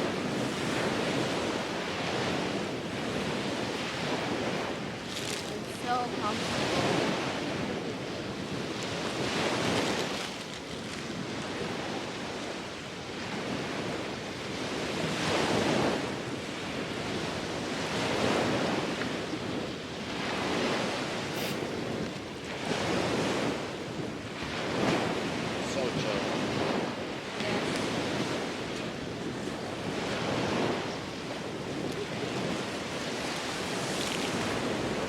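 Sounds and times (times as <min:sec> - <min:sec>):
sea waves washing onto beach: 0:00.0 - 0:35.0
wind buffeting microphone: 0:00.0 - 0:35.0.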